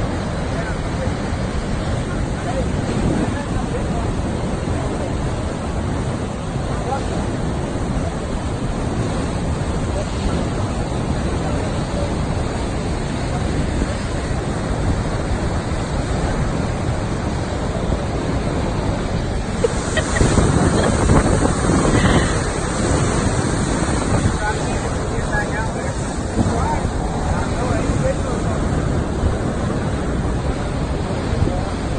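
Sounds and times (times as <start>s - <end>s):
river water rushing: 0.0s - 31.9s
wind on microphone: 0.0s - 31.9s.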